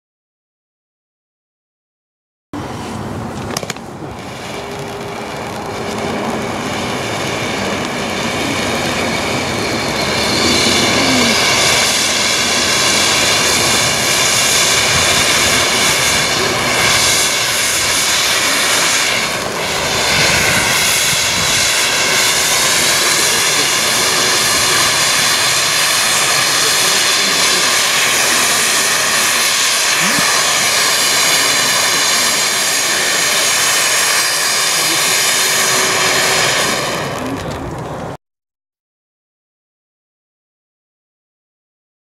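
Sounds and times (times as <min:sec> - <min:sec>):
firework crackle: 0:02.6 - 0:38.2
firework fountain hissing sparks: 0:02.6 - 0:38.2.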